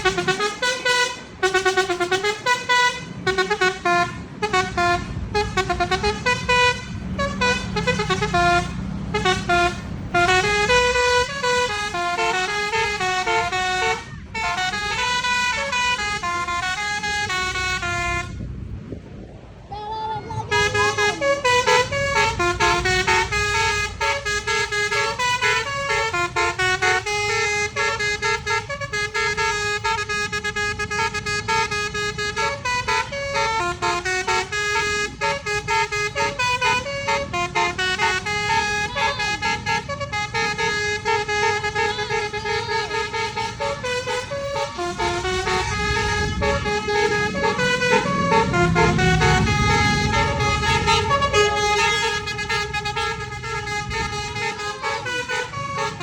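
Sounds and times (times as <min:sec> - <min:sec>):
multi-tone musical air horn: 0:00.0 - 0:18.4, 0:20.4 - 0:56.0
low engine rumble: 0:00.0 - 0:56.0.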